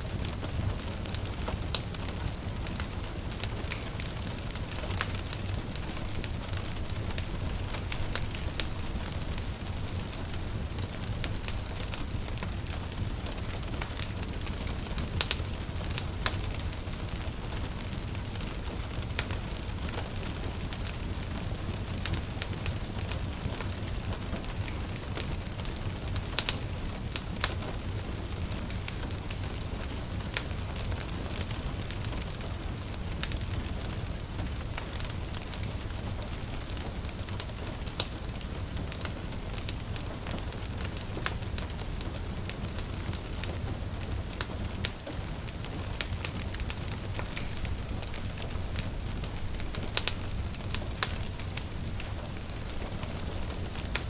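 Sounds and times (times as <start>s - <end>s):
gentle patter of rain: 0.0s - 54.0s
wood fire crackling: 0.0s - 54.0s.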